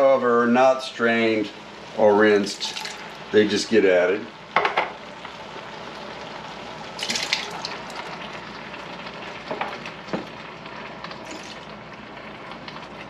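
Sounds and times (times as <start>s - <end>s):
meat sizzling in a pot: 0.7s - 13.0s.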